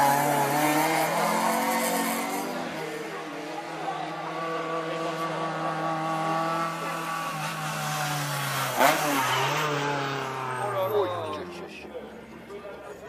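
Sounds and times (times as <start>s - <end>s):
racing car engine revving: 0.0s - 11.5s.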